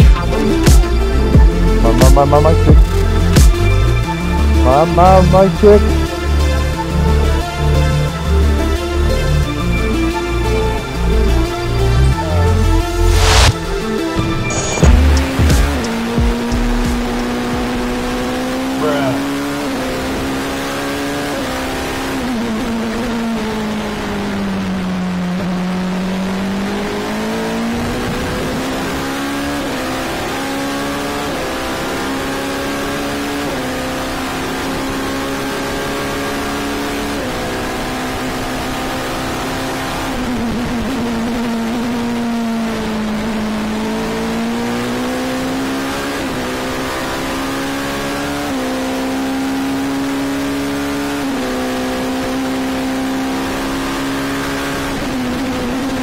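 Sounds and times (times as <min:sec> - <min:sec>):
racing engine shifting gears: 0:00.0 - 0:56.0.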